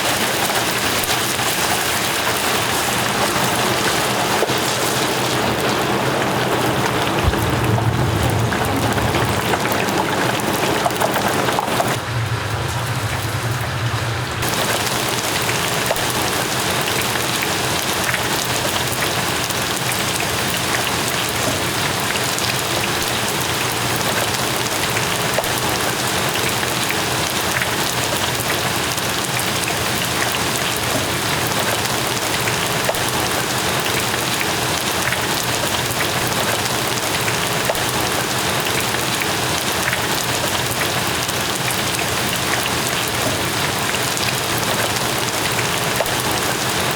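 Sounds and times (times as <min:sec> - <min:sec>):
food deep-frying in oil: 0:00.0 - 0:46.9.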